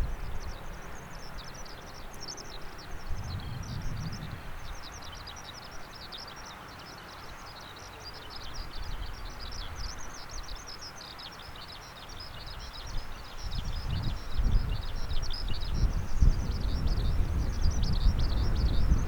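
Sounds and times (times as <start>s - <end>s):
outdoor background noise: 0.0s - 19.0s
small bird chirping: 0.0s - 19.0s.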